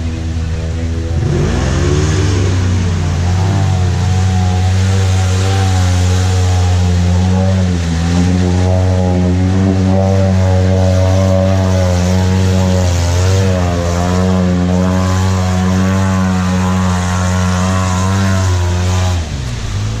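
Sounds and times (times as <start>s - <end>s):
off-road vehicle engine droning: 0.0s - 20.0s.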